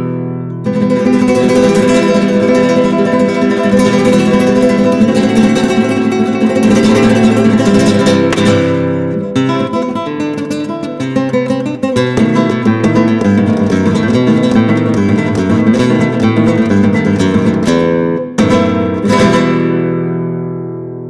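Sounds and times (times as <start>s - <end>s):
flamenco guitar strumming: 0.0s - 21.0s.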